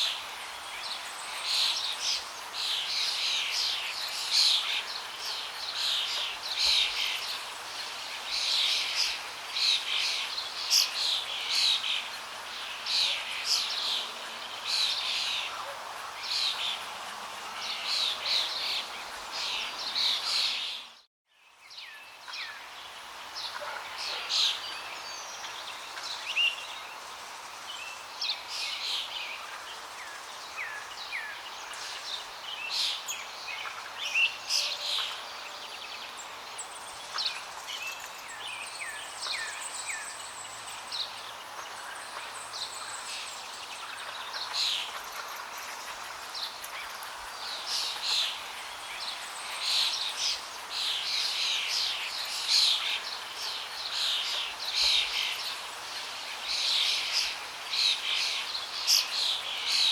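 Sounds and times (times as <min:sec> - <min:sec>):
flowing water hiss: 0:00.0 - 0:20.9, 0:21.7 - 0:59.9
small birds chirping: 0:00.0 - 0:59.9.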